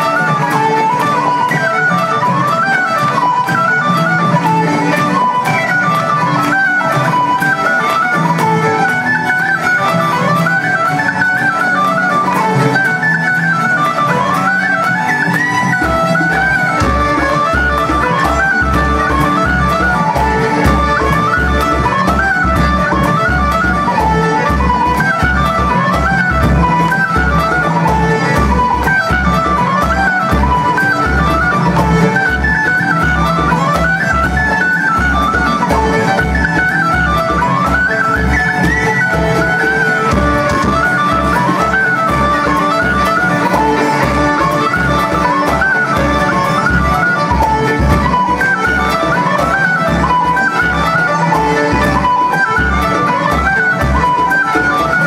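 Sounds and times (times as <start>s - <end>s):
folk ensemble playing: 0.0s - 55.0s.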